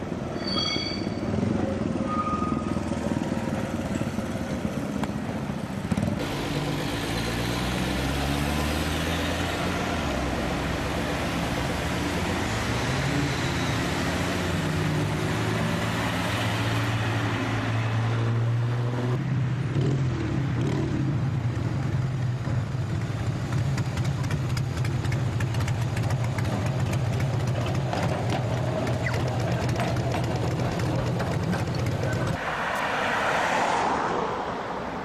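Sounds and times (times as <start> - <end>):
vehicle engine humming: 1.0 - 19.6, 21.0 - 35.0.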